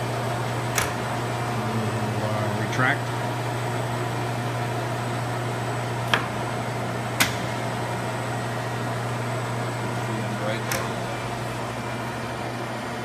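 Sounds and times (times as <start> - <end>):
grinder machine humming: 0.0 - 13.0.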